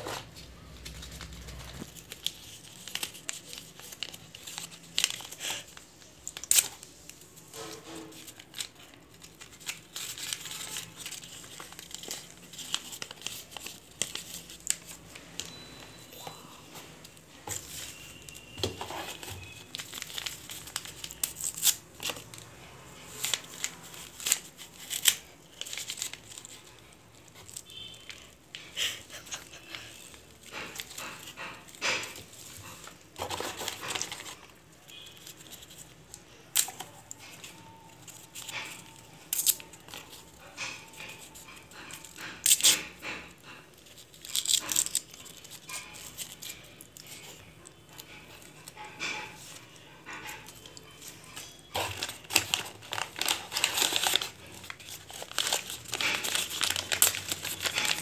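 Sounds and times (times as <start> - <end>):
paper rustling and crinkling: 0.0 - 58.0.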